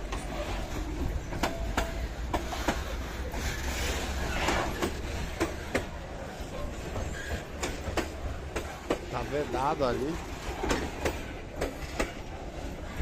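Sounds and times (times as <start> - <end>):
freight train wagons rumbling: 0.0 - 13.0
wheels and couplings clanking: 0.0 - 13.0.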